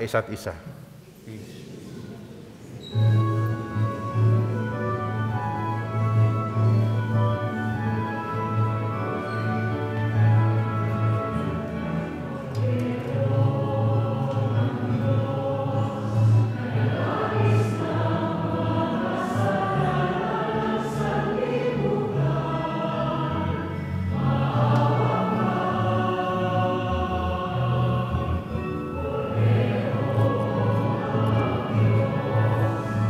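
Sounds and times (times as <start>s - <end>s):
choir singing a hymn: 2.9s - 33.0s
sustained instrumental accompaniment: 3.0s - 33.0s.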